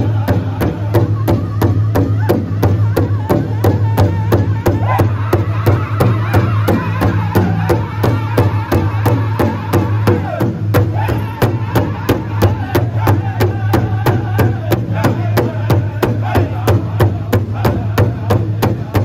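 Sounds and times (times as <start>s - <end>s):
large drum beating: 0.0s - 19.0s
men singing in high voices: 0.0s - 19.0s.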